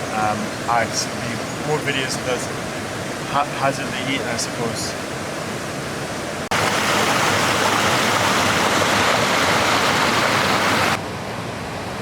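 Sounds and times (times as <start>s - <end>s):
stream rushing over rock: 0.0s - 11.0s.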